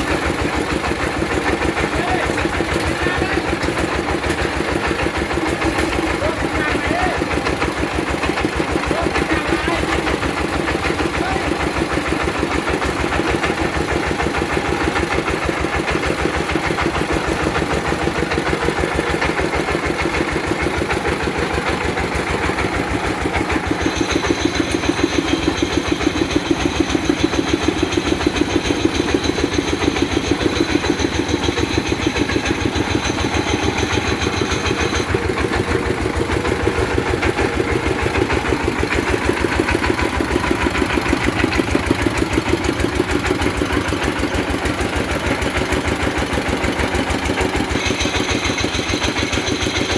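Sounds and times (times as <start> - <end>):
drilling rig engine running: 0.0 - 49.9.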